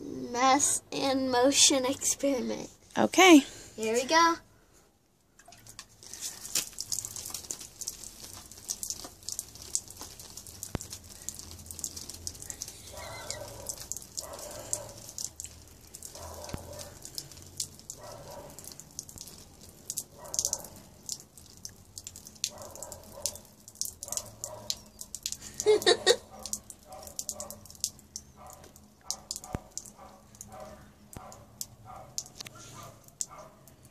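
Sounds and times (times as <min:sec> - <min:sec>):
water drops pattering: 0:05.3 - 0:33.9
water jetting: 0:05.4 - 0:33.9.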